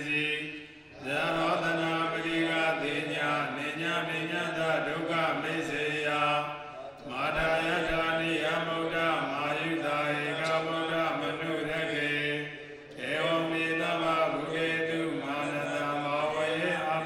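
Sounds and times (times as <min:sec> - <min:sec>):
monks chanting: 0:00.0 - 0:17.0.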